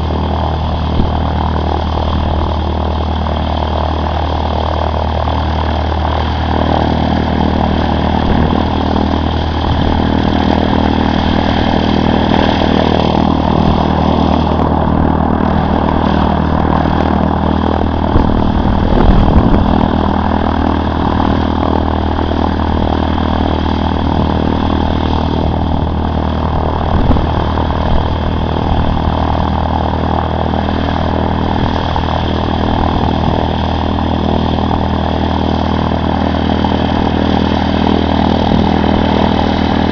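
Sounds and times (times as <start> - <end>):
light aircraft engine and propeller: 0.0 - 39.9
low rumble: 0.0 - 39.9.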